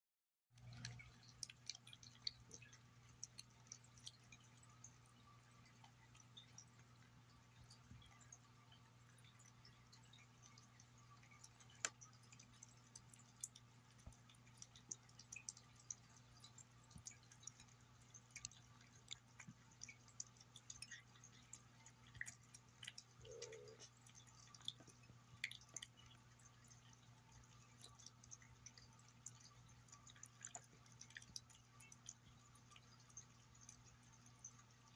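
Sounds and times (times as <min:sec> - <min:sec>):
cat chewing and licking: 0:00.6 - 0:34.9
low steady hum: 0:00.6 - 0:34.9.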